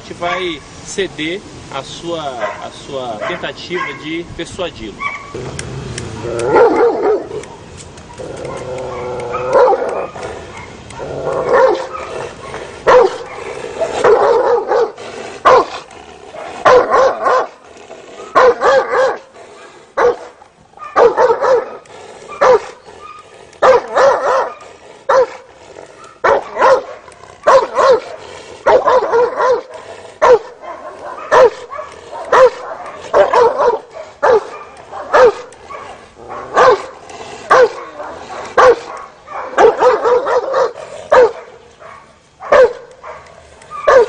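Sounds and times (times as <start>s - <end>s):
dog barking: 2.4s - 4.1s, 5.0s - 5.4s, 6.5s - 7.6s, 8.5s - 15.8s, 16.4s - 17.6s, 18.3s - 19.3s, 20.0s - 25.4s, 26.0s - 36.9s, 37.5s - 44.0s.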